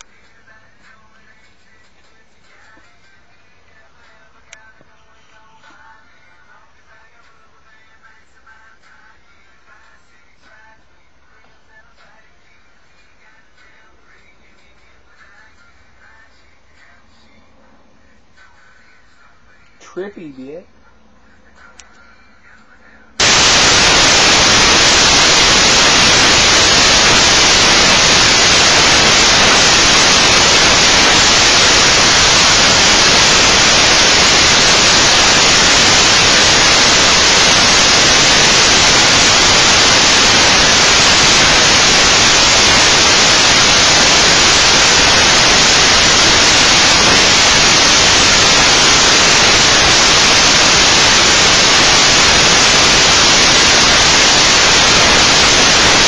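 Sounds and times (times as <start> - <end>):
loud static hiss: 0.0 - 56.0.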